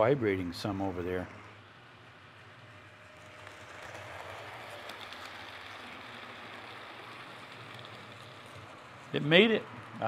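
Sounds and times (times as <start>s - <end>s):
model train rolling hiss: 0.0s - 10.0s.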